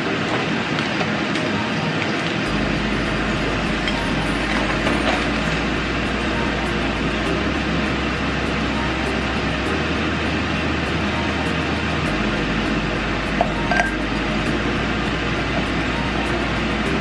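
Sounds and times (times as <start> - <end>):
moving vehicle rumble: 2.2 - 17.0.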